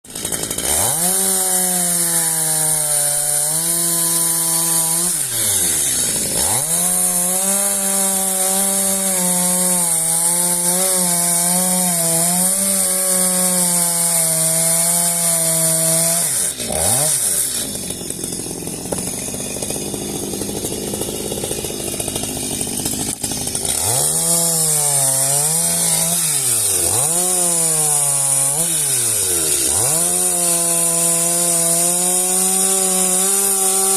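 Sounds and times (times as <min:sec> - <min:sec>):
chainsaw revving: 0:00.1 - 0:33.9.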